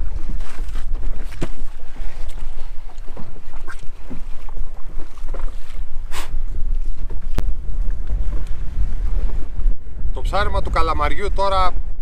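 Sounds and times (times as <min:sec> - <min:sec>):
water splashing against hull: 0:00.0 - 0:12.0
wind buffeting microphone: 0:00.0 - 0:12.0.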